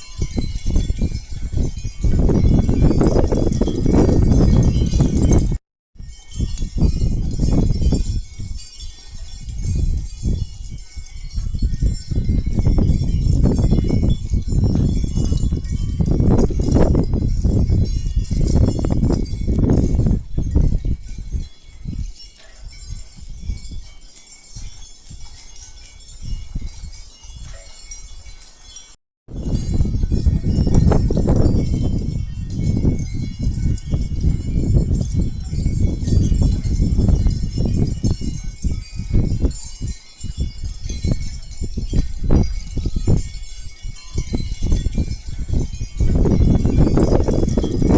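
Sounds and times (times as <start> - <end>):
chimes ringing: 0.0 - 47.9
wind rumbling on microphone: 0.0 - 47.9.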